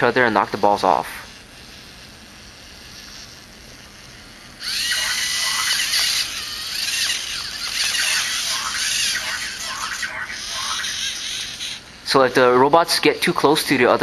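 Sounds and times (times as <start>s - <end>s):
toy robot motors whining and rattling: 0.0s - 14.0s.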